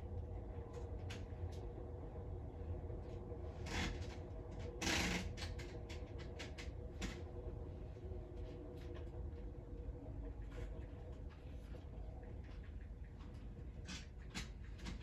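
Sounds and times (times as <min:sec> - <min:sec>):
muffled train rumble: 0:00.0 - 0:15.0.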